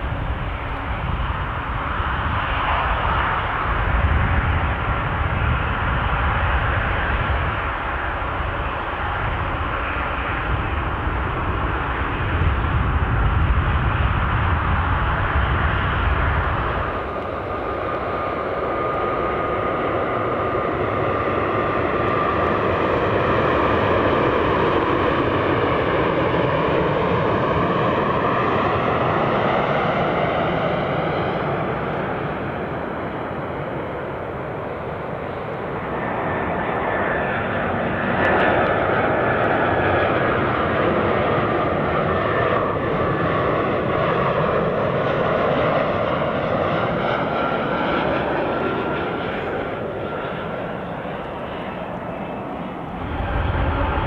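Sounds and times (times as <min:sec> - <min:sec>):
jet engine rumble on runway: 0:00.0 - 0:54.0
jet engine whine passing over: 0:00.0 - 0:54.0.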